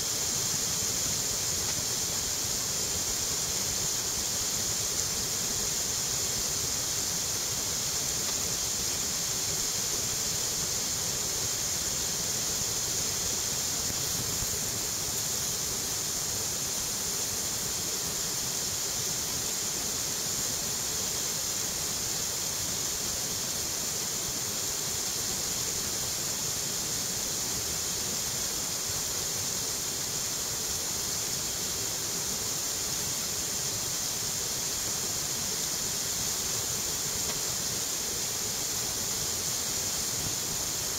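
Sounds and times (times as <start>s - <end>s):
river water pouring over a weir: 0.0s - 40.9s.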